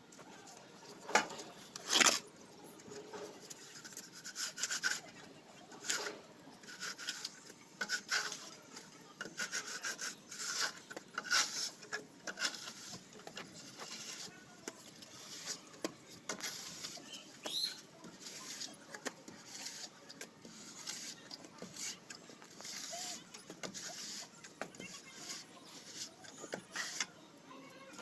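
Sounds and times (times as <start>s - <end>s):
plastering tool scraping plaster: 1.2s - 2.3s, 2.9s - 27.1s.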